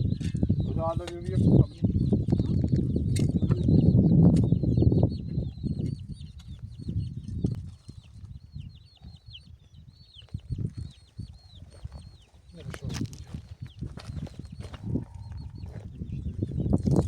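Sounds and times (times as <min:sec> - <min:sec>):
small birds peeping: 0:00.0 - 0:17.0.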